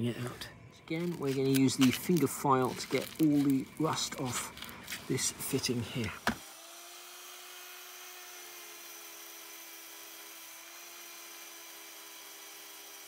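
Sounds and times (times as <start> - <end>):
belt sander whining: 0.8 - 13.0.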